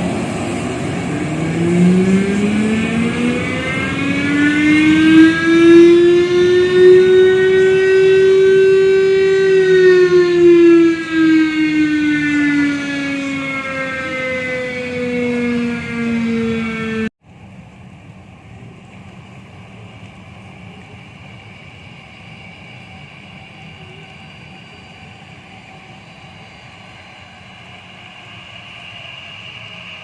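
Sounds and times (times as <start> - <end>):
airliner engines droning: 0.0 - 30.0
engine whine: 0.0 - 30.0.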